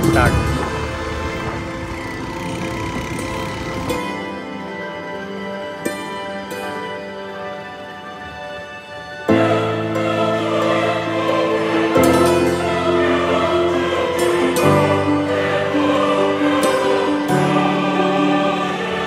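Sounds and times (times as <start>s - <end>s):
slow sustained chords: 0.0s - 19.0s.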